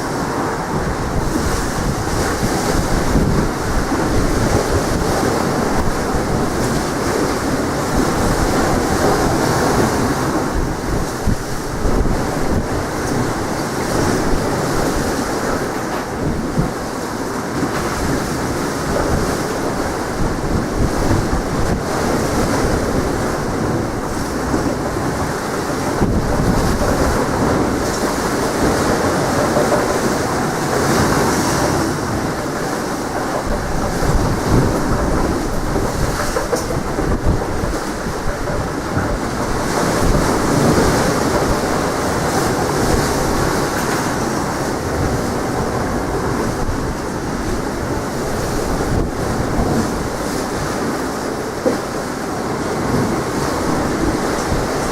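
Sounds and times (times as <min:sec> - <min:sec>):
sea waves washing: 0:00.0 - 0:54.9
strong wind buffeting microphone: 0:00.0 - 0:54.9.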